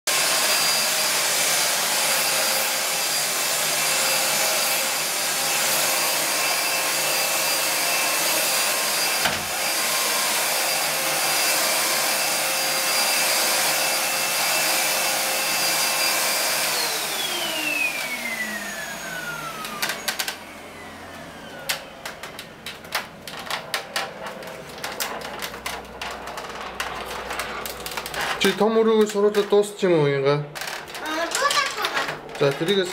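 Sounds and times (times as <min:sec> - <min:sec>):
vacuum cleaner whine: 0:00.1 - 0:29.8, 0:30.6 - 0:32.9.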